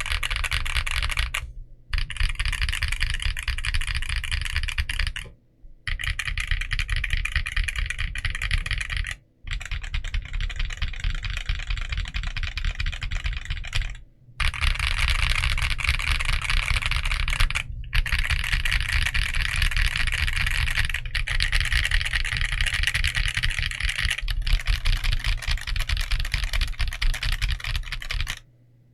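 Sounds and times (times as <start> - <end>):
fast typing on mechanical keyboard: 0.0 - 28.5.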